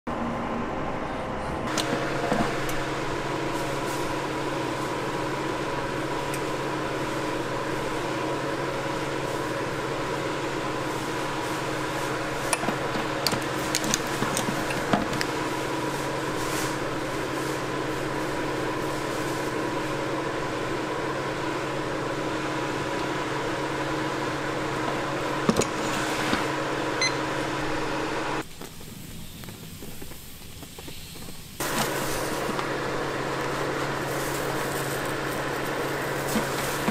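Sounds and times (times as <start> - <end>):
kitchen appliance and ventilation hum: 0.1 - 36.9.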